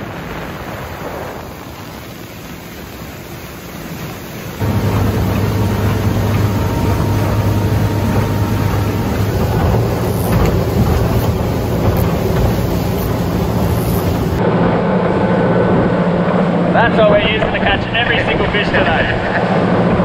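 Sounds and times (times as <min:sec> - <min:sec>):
motorboat engine humming: 0:00.0 - 0:17.6
wind and water rushing: 0:00.0 - 0:20.0.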